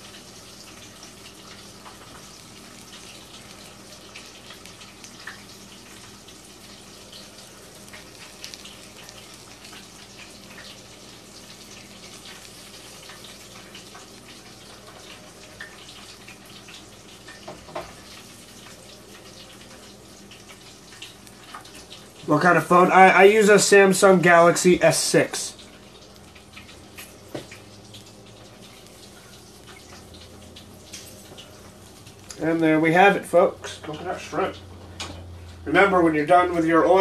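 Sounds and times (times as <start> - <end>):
oil sizzling with crackles: 0.0 - 37.0.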